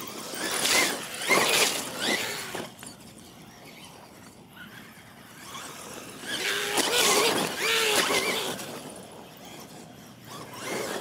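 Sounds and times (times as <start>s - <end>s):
toy truck motors whining: 0.0s - 11.0s.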